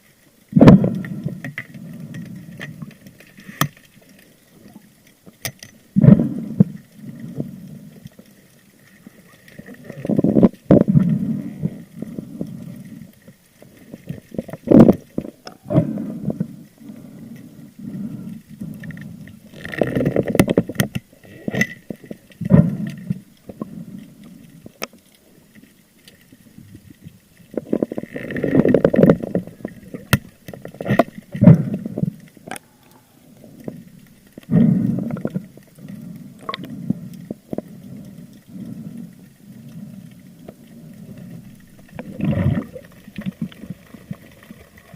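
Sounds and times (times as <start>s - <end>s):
water sloshing and gurgling: 0.0s - 44.9s.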